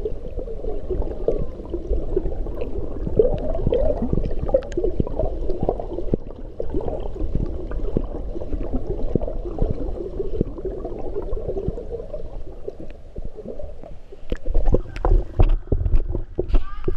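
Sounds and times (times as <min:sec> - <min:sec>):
swimmer kicking underwater: 0:00.0 - 0:16.6
underwater gurgling: 0:00.0 - 0:16.9
water splashing: 0:00.0 - 0:16.9.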